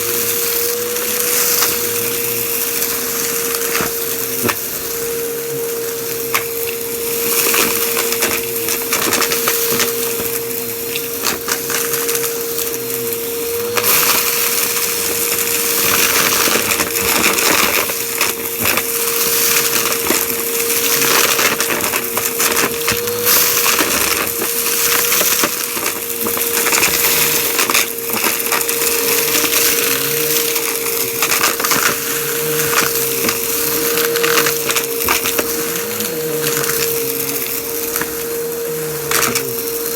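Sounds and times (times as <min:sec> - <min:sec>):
debris rattling through hose: 0:00.0 - 0:39.9
vacuum cleaner motor whine: 0:00.0 - 0:39.9.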